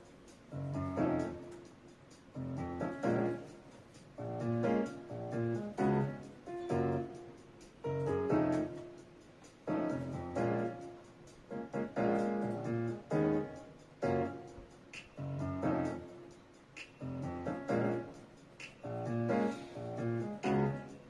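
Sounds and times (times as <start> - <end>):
instrumental keyboard music: 0.0 - 21.0.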